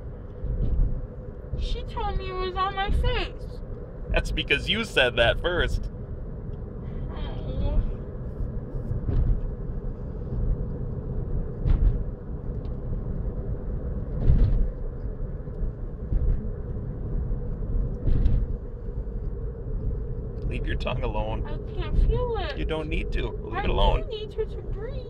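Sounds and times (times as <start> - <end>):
faint steady hum: 0.0 - 25.0
road rumble inside car: 0.0 - 25.0.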